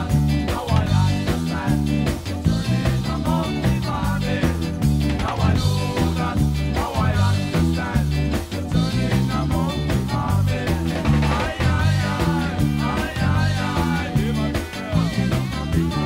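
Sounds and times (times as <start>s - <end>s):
electric bass plucked: 0.0s - 16.0s
ska song with singing: 0.0s - 16.0s.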